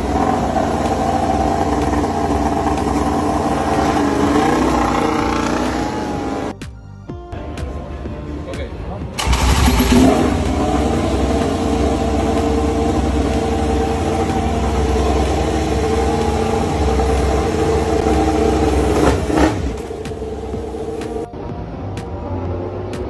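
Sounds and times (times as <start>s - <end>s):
motorcycle engine idling: 0.0s - 6.5s, 9.1s - 21.3s.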